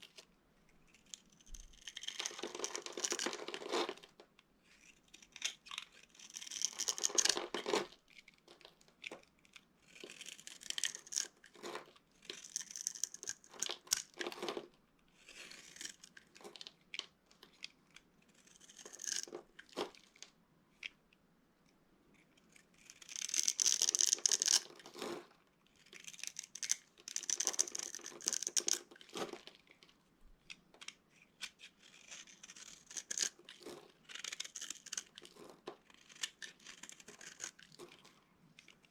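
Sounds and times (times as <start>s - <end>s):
dry soap crackling being cut: 0.8s - 16.7s, 17.5s - 20.1s, 22.1s - 29.8s, 30.4s - 38.9s.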